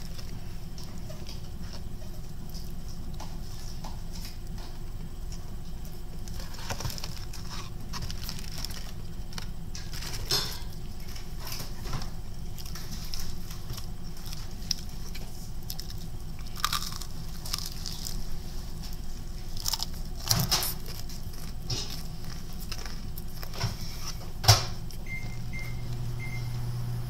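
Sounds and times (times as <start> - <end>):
person chewing food: 0.0 - 25.8
steady low hum: 0.0 - 27.0.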